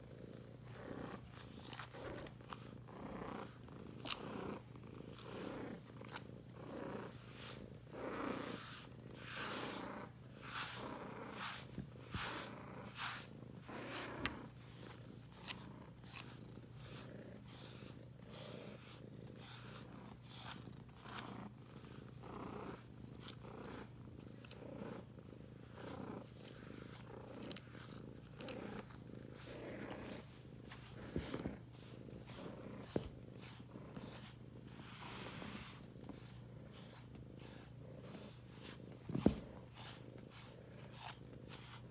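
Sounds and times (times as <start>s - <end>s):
cat purring: 0.0s - 41.9s
brush swishing through fur: 0.7s - 41.9s.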